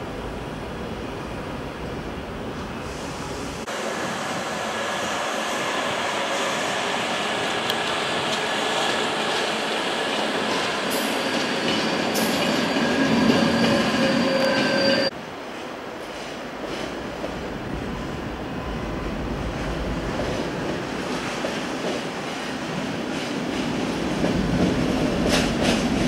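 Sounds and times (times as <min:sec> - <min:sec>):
train rushing rail noise: 0:00.0 - 0:26.0.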